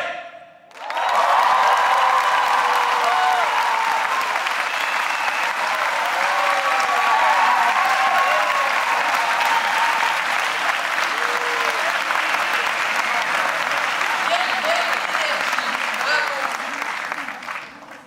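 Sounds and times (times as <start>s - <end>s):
audience applauding: 0.7s - 18.0s
cheers and shouts: 0.8s - 15.4s.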